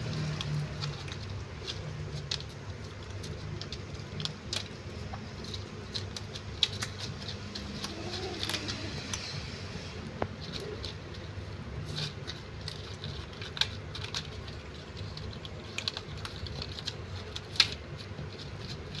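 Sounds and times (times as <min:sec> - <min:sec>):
kittens chewing and lapping: 0:00.0 - 0:19.0.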